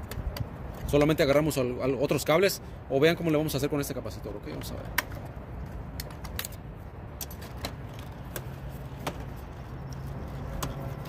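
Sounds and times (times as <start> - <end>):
low steady background rumble: 0.0 - 11.0.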